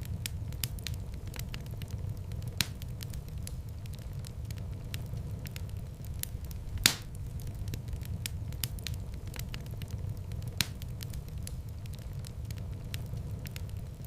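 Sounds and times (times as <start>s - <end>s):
loud pops of fire: 0.0s - 14.0s
wood fire crackling: 0.0s - 14.0s.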